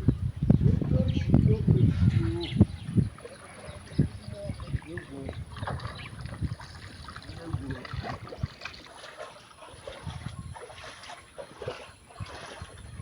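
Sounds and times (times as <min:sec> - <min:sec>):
floodwater splashing and sloshing: 0:00.8 - 0:13.0.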